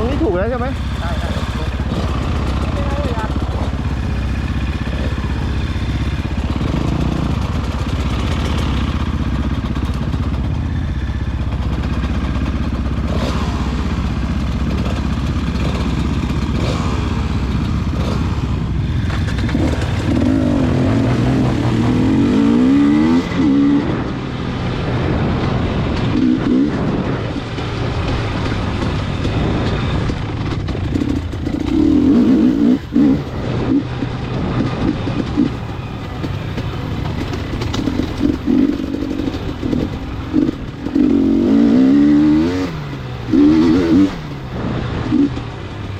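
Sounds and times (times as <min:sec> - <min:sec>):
motor vehicle running: 0:00.0 - 0:45.9.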